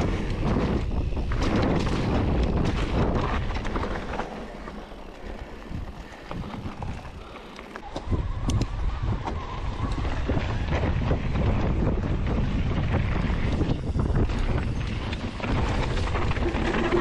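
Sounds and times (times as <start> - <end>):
wind noise on microphone: 0.0 - 4.4, 5.3 - 17.0
bike rattling: 0.0 - 17.0
bike tyres rumbling: 0.0 - 17.0.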